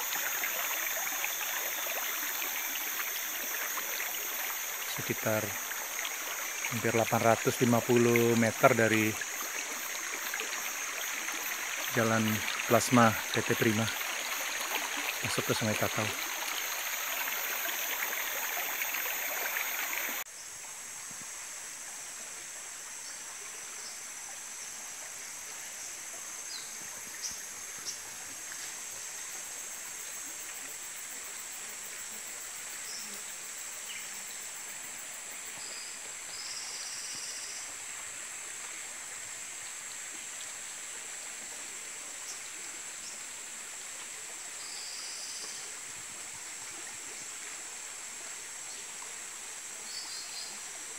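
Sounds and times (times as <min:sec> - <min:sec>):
stream flowing over stones: 0:00.0 - 0:50.9.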